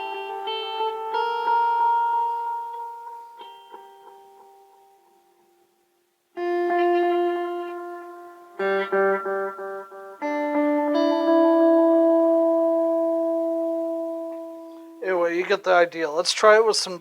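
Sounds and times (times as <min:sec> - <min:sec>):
electric guitar with delay: 0:00.0 - 0:05.3, 0:06.4 - 0:17.0.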